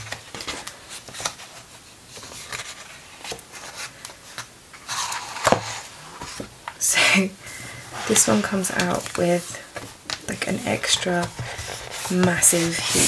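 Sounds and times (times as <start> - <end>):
book pages rustling: 0.0 - 6.6, 7.6 - 13.0.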